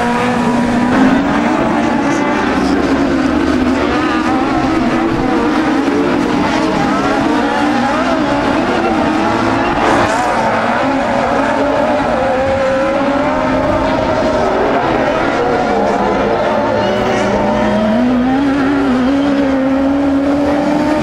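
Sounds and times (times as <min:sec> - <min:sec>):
racing buggy engines revving: 0:00.0 - 0:21.0.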